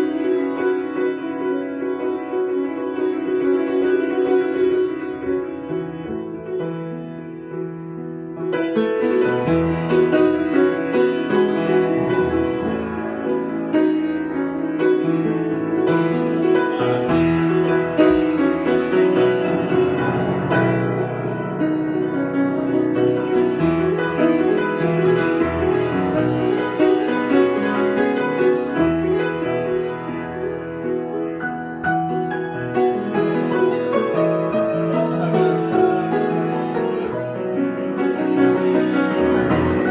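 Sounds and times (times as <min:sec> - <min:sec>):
solo piano playing: 0:00.0 - 0:39.9.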